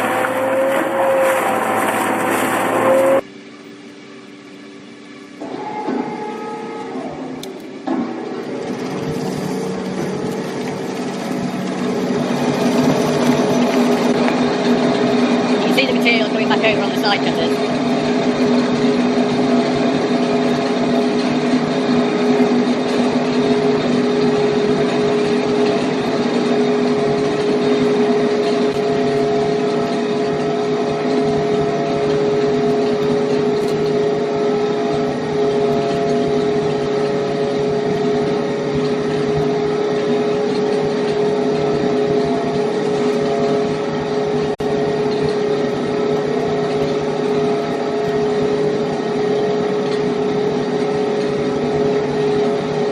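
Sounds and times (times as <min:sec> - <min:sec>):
heavy industrial machine humming: 0:00.0 - 0:52.9.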